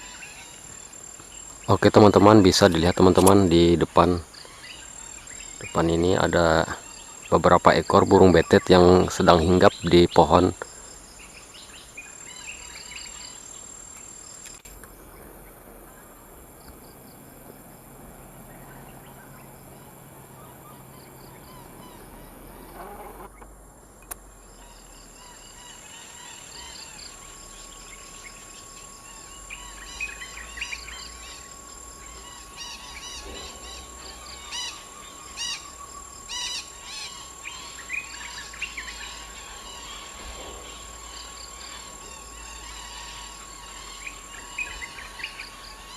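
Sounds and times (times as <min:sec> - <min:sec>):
parakeets chirping: 0:00.0 - 0:13.8, 0:14.8 - 0:23.5, 0:24.5 - 0:45.9
insects buzzing: 0:00.0 - 0:45.9.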